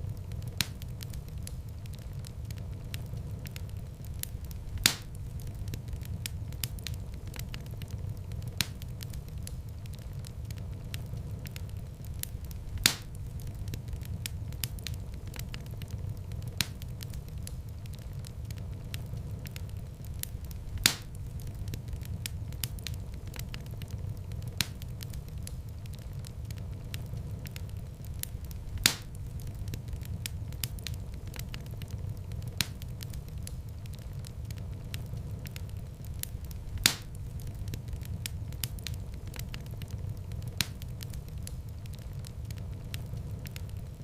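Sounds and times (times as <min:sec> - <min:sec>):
fire pops: 0:00.0 - 0:44.0
wood fire crackling: 0:00.0 - 0:44.0.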